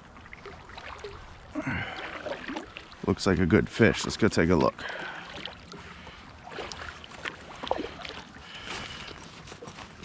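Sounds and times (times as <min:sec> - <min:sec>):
kayak paddle splashing in water: 0:00.0 - 0:03.2, 0:04.6 - 0:10.0.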